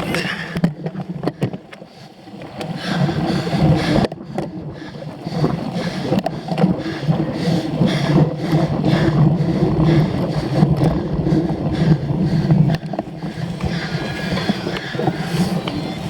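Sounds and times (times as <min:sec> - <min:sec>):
bike tyres and frame rattling: 0:00.0 - 0:16.0
wind on the microphone: 0:02.5 - 0:16.0.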